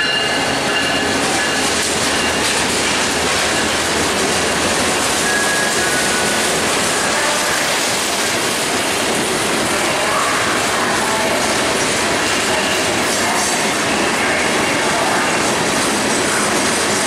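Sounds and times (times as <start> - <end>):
train wheels rolling on rail: 0.0 - 17.0.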